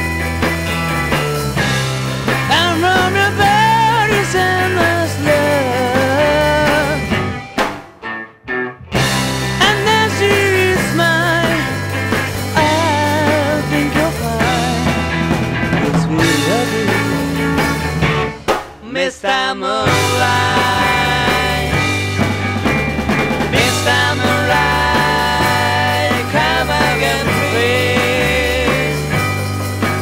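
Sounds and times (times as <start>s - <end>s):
rock band playing: 0.0s - 30.0s
wavering lead guitar: 0.0s - 30.0s.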